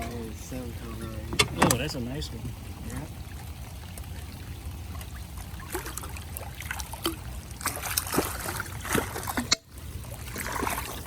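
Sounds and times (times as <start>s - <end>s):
steady low rumble: 0.0s - 11.0s
water splashing and trickling: 0.0s - 11.0s.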